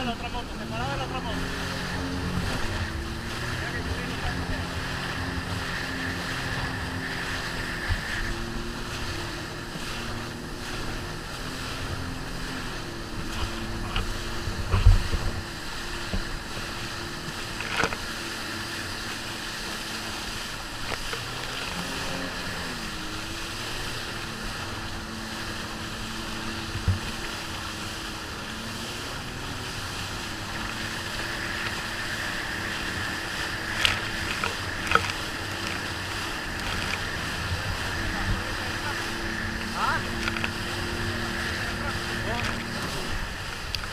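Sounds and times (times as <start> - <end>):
jet ski engine running: 0.0 - 43.9
water noise: 0.0 - 43.9
wind: 0.0 - 43.9.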